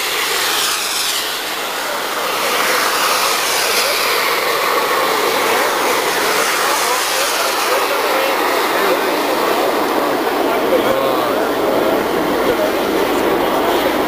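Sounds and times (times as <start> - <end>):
model jet engines whining: 0.0 - 14.0.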